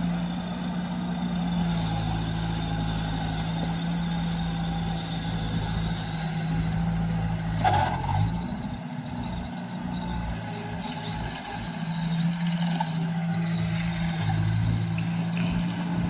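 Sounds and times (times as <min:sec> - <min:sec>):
combine harvester diesel engine: 0:00.0 - 0:16.0.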